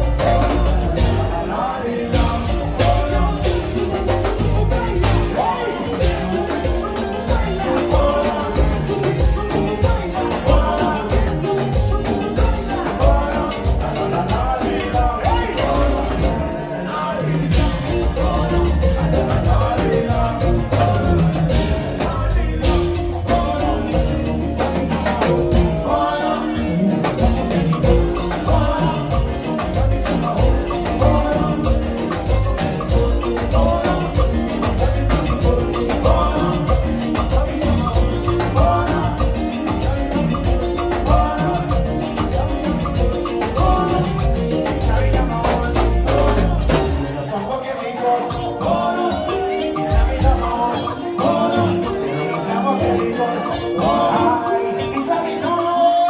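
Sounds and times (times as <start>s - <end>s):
drum kit beat: 0.0s - 47.4s
live latin dance band: 0.0s - 56.0s
people singing into microphones: 0.0s - 56.0s.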